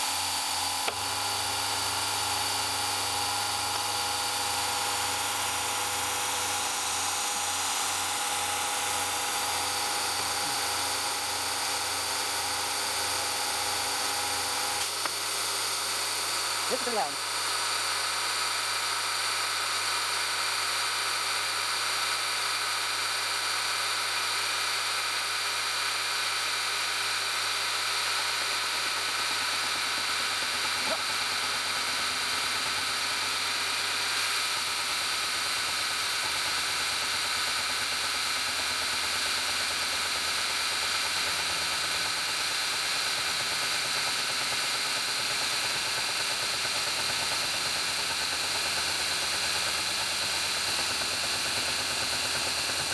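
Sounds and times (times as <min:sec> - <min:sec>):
milling machine cutting steel: 0:00.0 - 0:21.3, 0:25.2 - 0:52.9.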